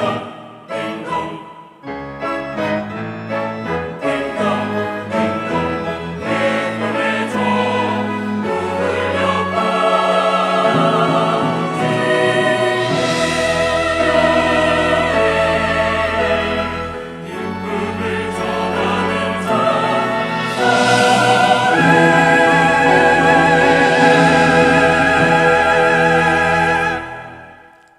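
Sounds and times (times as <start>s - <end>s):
church choir singing: 0.0s - 27.9s
instrumental accompaniment: 0.0s - 27.9s.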